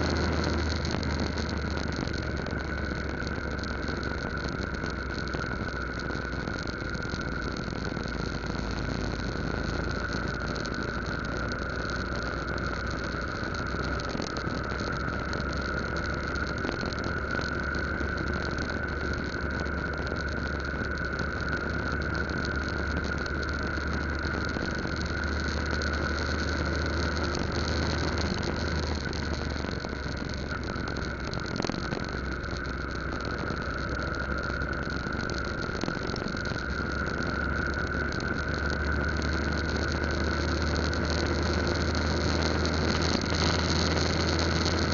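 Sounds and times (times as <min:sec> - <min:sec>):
wind and road noise: 0:00.0 - 0:44.9.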